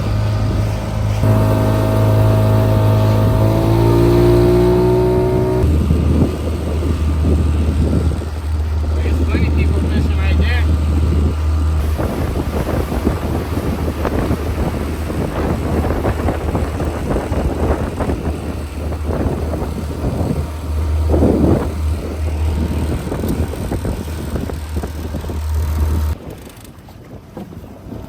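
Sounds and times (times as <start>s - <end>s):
motorboat engine droning: 0.0s - 28.0s
wind buffeting microphone: 0.0s - 28.0s.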